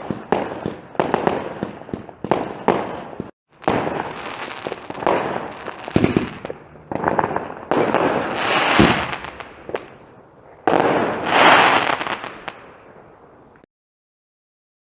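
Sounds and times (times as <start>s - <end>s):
fireworks banging and crackling: 0.0s - 13.6s.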